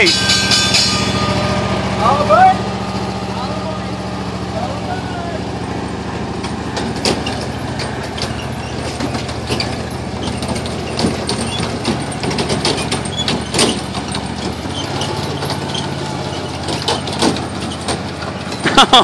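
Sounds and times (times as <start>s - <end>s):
cars rattling over ground: 0.0s - 19.0s
small engine running: 0.0s - 19.0s.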